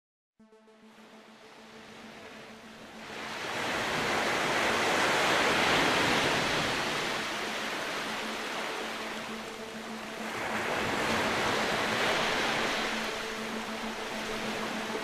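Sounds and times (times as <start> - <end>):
water rushing and splashing: 2.1 - 15.0.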